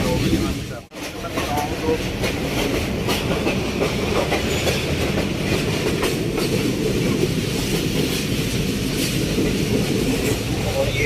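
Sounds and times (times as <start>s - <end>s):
train coach rumble: 0.0s - 11.0s
wheels clattering over rails: 0.0s - 11.0s.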